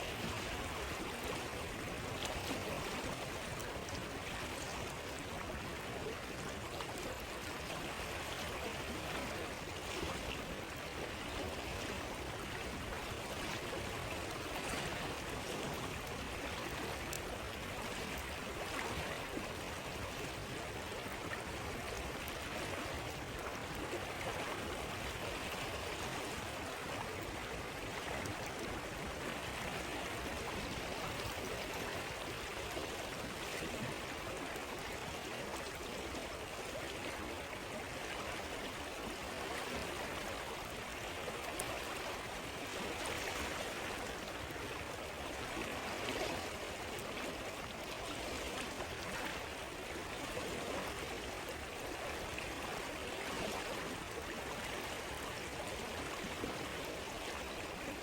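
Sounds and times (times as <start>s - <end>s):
faint campfire crackles: 0.0s - 58.0s
stream flowing: 0.0s - 58.0s.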